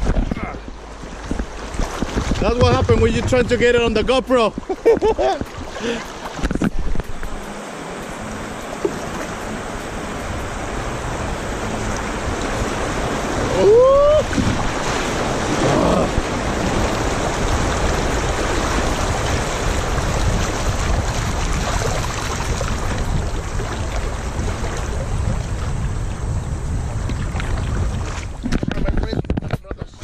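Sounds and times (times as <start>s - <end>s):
river water rushing: 0.0s - 28.4s.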